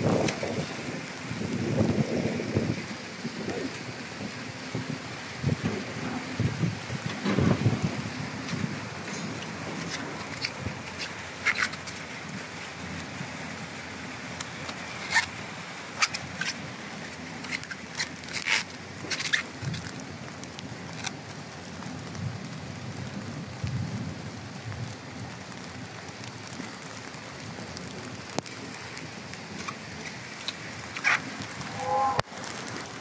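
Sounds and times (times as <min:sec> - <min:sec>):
water running over roof tiles: 0:00.0 - 0:33.0.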